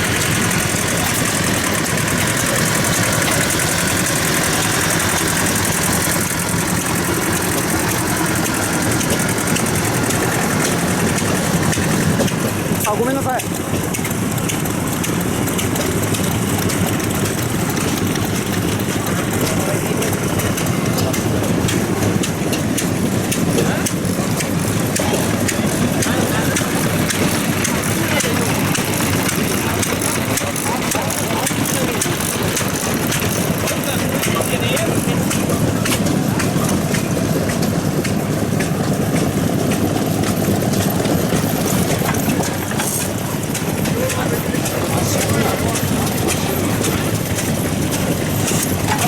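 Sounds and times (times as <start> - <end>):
faint irregular clicks: 0.0 - 49.0
old engines chugging at idle: 0.0 - 49.0.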